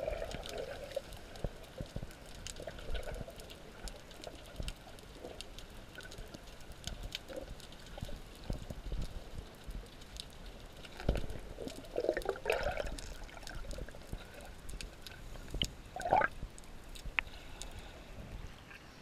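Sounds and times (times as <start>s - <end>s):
small clicks underwater: 0.0s - 19.0s
water gurgles: 0.0s - 19.0s
water sloshing and bubbling: 0.0s - 19.0s.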